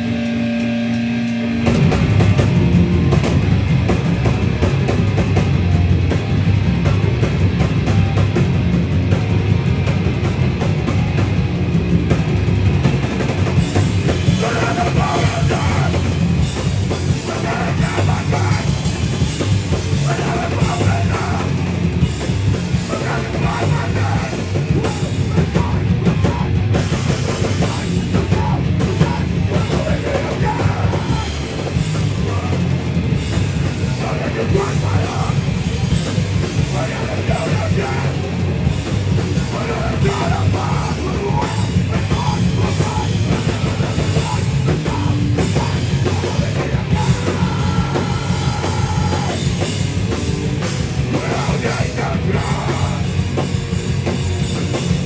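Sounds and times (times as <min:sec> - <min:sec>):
bass guitar: 0:00.0 - 0:55.0
distorted guitars: 0:00.0 - 0:55.0
pounding drum kit: 0:00.0 - 0:55.0.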